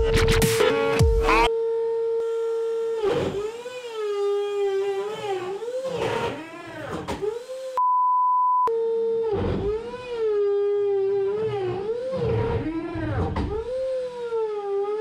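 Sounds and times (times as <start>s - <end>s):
router spindle whine cutting: 0.7s - 7.8s, 8.7s - 15.0s.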